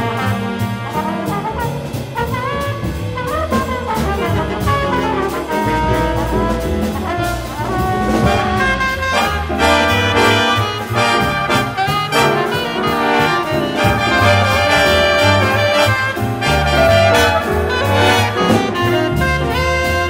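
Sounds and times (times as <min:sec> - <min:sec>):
jazz big band playing: 0:00.0 - 0:20.0
trumpets and trombones: 0:00.0 - 0:20.0.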